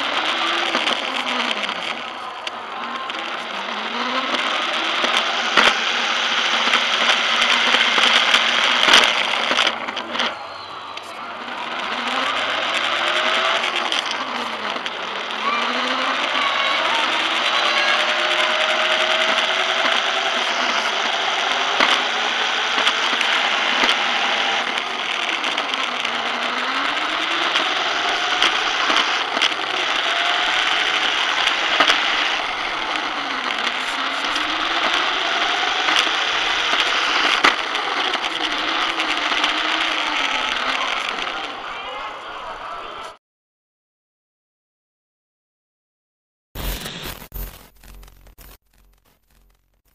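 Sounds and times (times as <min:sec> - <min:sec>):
sharp clicks: 0:00.0 - 0:41.6
rc car motor whining: 0:00.0 - 0:43.2.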